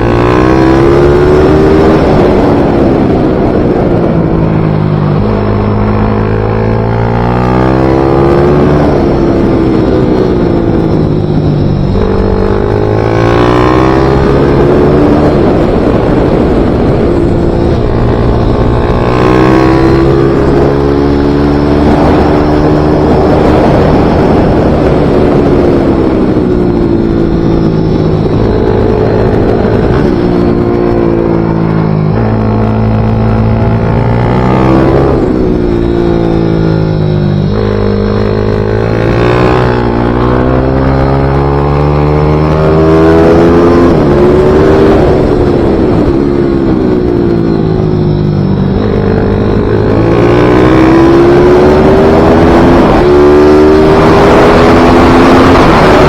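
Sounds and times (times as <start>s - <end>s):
small motorcycle engine revving: 0.0s - 56.0s.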